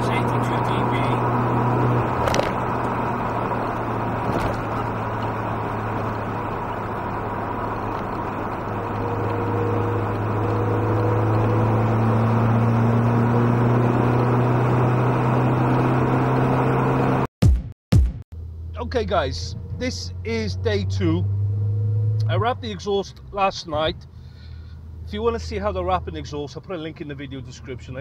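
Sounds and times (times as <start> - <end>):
low engine drone in car cabin: 0.0 - 17.3, 18.4 - 28.0
road and tyre noise: 0.0 - 17.3, 18.4 - 28.0.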